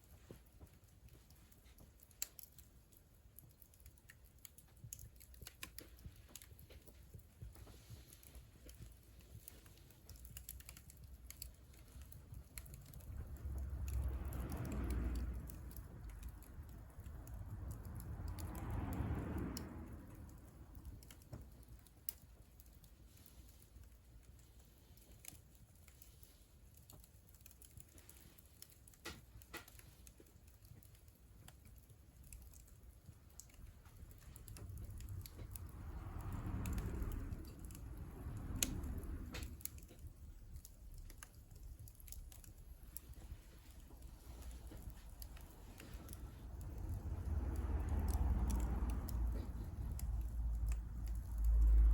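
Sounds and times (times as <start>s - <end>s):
low rushing of fire: 0.0s - 51.9s
wood fire crackling in a stove: 0.0s - 51.9s.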